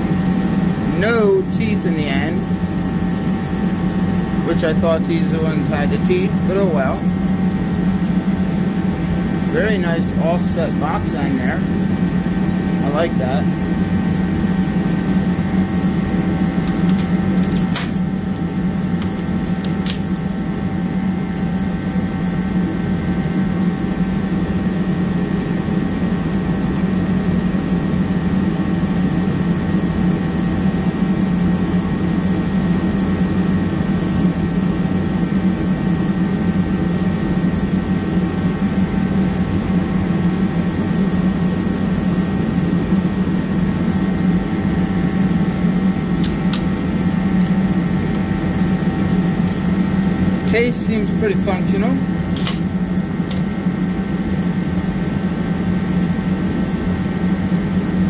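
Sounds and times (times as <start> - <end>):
heater humming with fan rush: 0.0 - 58.0.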